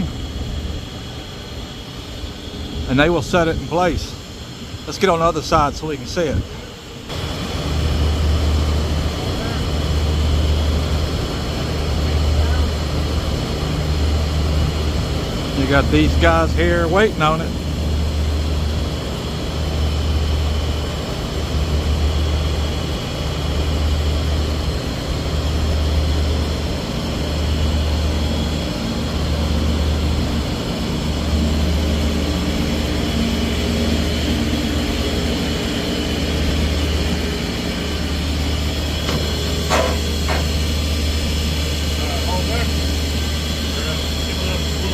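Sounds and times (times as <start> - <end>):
heavy machinery drone: 0.0 - 44.9.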